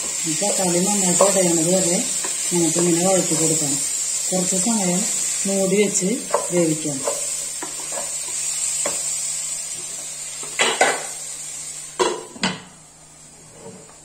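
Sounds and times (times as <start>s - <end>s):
vegetables sizzling in oil: 0.0s - 13.7s.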